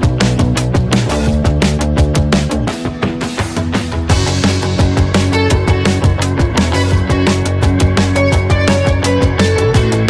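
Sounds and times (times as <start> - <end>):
fast drum beat: 0.0 - 10.0
heavy bass line: 0.0 - 10.0.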